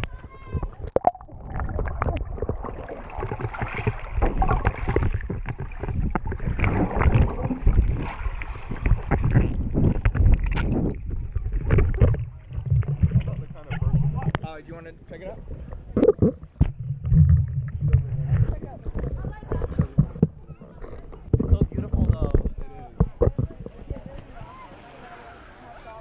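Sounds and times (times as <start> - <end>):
water churning and splashing: 0.0 - 26.0.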